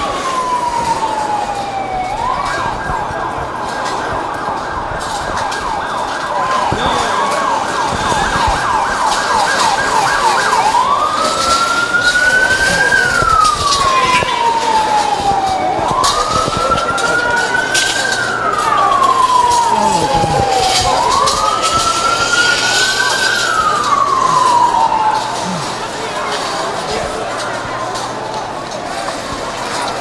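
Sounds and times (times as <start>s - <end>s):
emergency vehicle siren: 0.0s - 30.0s.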